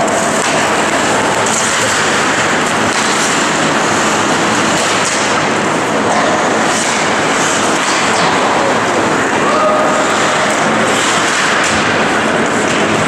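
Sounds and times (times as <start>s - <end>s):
ice hockey game din: 0.0s - 13.0s
skate blades scraping ice: 0.0s - 13.0s.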